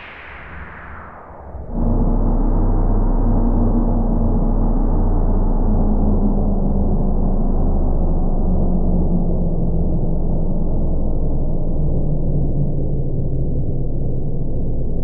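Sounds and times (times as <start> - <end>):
deep droning hum: 0.0 - 15.0.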